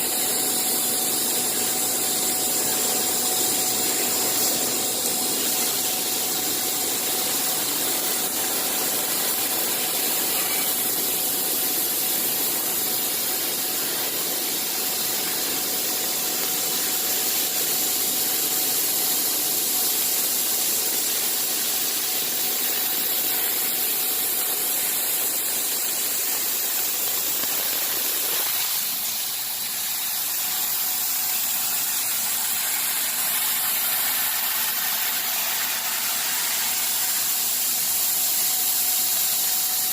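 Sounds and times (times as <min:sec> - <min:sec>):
faint machine whine: 0:00.0 - 0:39.9
machine hiss: 0:00.0 - 0:39.9.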